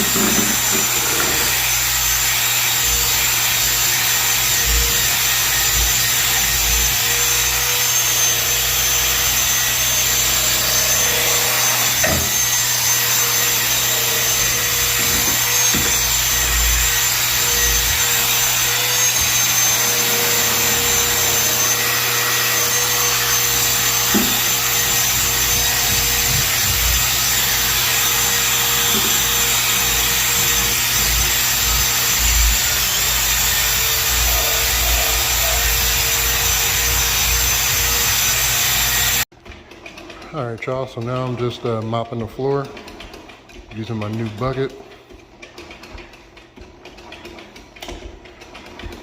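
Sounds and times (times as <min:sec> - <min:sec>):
electric machine whining: 0:00.0 - 0:39.3.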